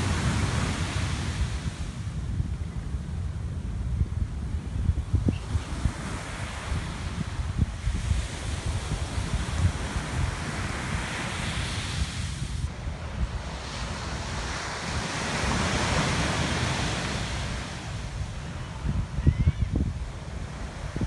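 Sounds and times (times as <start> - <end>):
small waves breaking on beach: 0.0 - 2.4, 4.4 - 21.0
wind buffeting microphone: 0.0 - 21.0.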